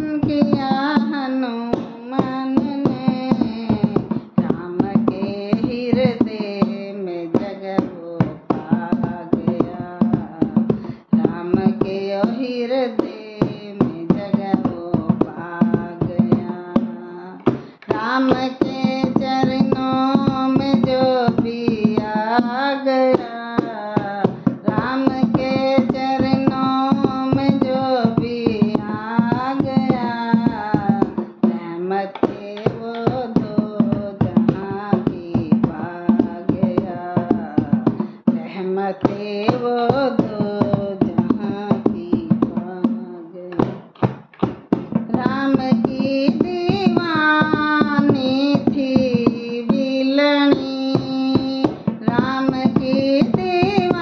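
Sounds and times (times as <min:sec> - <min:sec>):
fast hand drum rhythm: 0:00.0 - 0:54.0
woman singing devotional song: 0:00.0 - 0:54.0.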